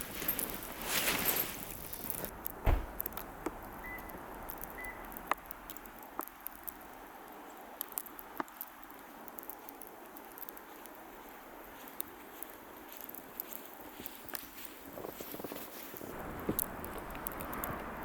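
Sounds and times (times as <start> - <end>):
faint crunches in snow: 0.0 - 3.2, 4.4 - 18.0.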